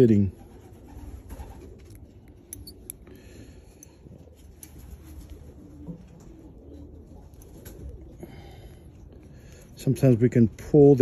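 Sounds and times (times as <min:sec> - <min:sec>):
pigeons cooing: 0:00.0 - 0:09.9.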